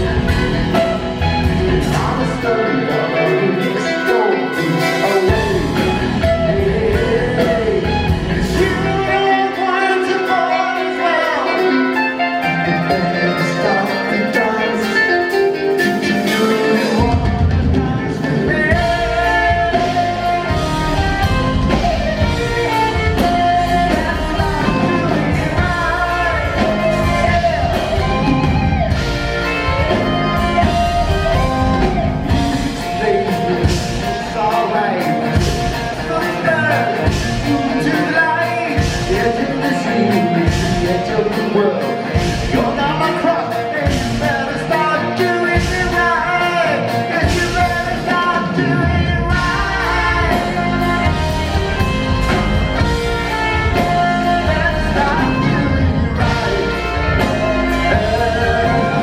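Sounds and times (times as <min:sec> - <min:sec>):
electric guitar: 0:00.0 - 0:59.0
live rock band playing: 0:00.0 - 0:59.0
person singing: 0:00.0 - 0:59.0.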